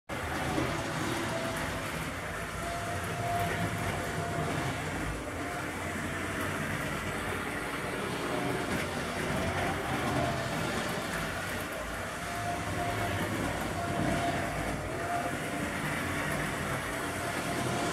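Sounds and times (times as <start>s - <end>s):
model train whirring on rails: 0.1s - 17.9s.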